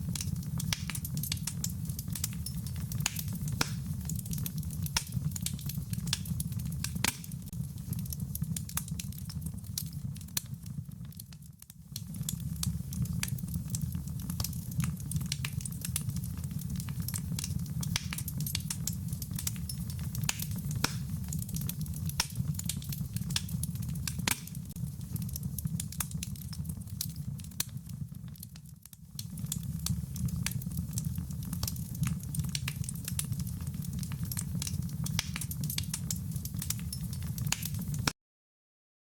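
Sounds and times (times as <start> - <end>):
wood fire crackling: 0.0 - 38.1.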